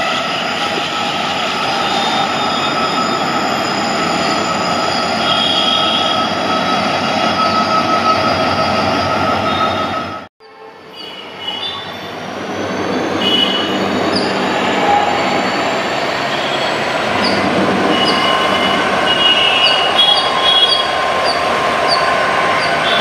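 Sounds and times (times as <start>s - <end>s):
diesel locomotive engine: 0.0s - 23.0s
high-pitched squeals: 0.0s - 23.0s.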